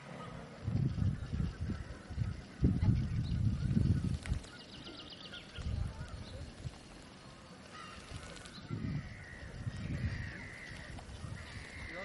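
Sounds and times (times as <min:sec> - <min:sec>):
wind rumble on microphone: 0:00.4 - 0:04.6, 0:05.4 - 0:07.0, 0:08.0 - 0:12.0
geese calling: 0:01.0 - 0:12.0.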